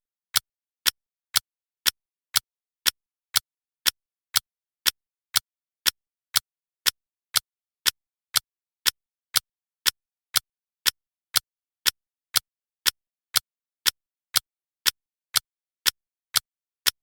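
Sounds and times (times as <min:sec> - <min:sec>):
clock ticking: 0:00.3 - 0:17.0.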